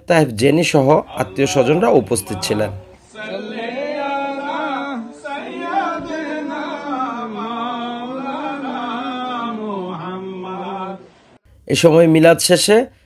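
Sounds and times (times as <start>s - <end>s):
men chanting devotional recitation: 0.1s - 12.0s.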